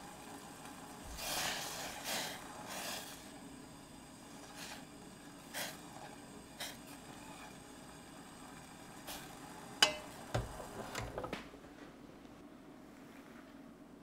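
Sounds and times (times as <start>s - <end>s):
gas burner hiss: 0.0s - 11.5s.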